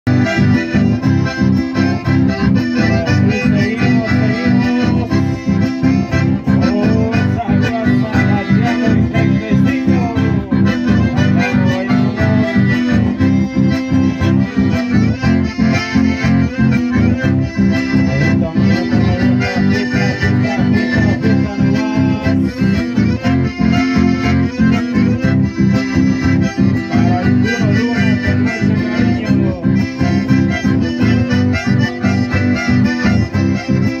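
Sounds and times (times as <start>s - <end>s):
accordions playing melody: 0.0s - 34.0s
acoustic guitars strumming rhythm: 0.1s - 34.0s.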